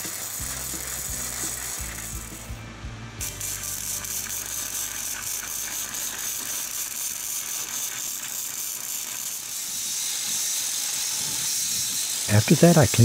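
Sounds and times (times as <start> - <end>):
welder arc crackling: 0.0 - 2.6, 3.2 - 13.0
welder arc hissing: 0.0 - 2.6, 3.2 - 13.0.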